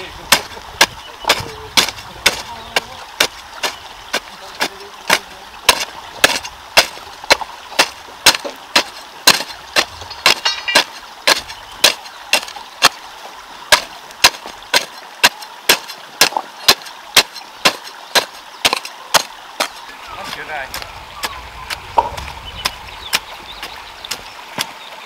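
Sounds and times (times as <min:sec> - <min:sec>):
rhythmic chopping with hand tool: 0:00.0 - 0:13.0, 0:13.7 - 0:24.8.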